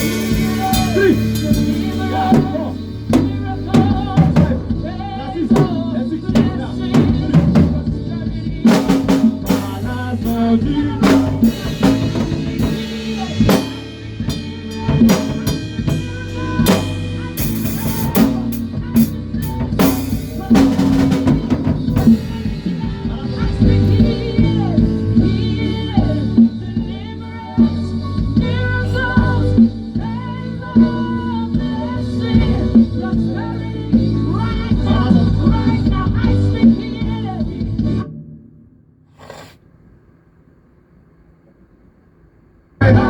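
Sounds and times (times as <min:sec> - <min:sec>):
drum kit: 0:00.0 - 0:38.0, 0:39.1 - 0:39.6
bass notes: 0:00.0 - 0:38.1.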